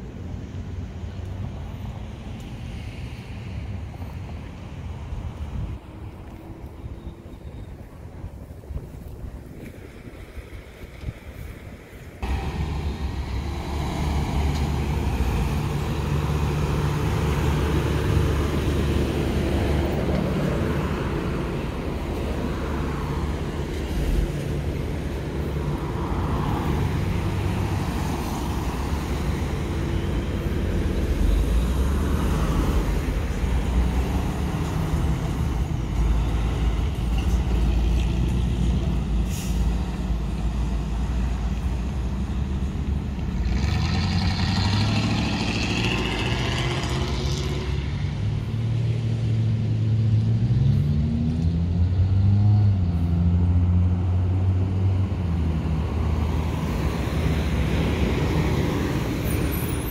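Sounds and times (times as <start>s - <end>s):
bus and truck engines: 0.0s - 59.9s
cars passing by: 0.0s - 59.9s.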